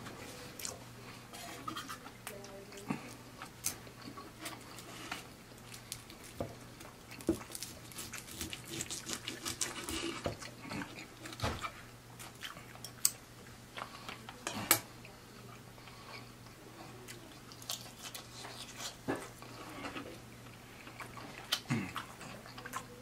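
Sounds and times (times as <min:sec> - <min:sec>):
wet chewing: 0:01.5 - 0:14.4, 0:17.0 - 0:23.0.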